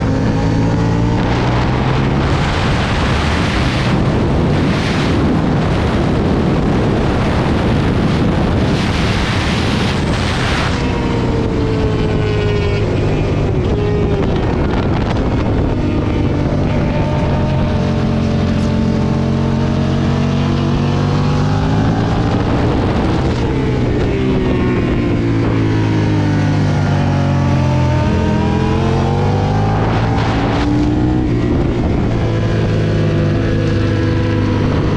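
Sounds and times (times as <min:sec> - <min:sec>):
motorcycle engine at speed: 0:00.0 - 0:34.9
wind rush: 0:00.0 - 0:34.9.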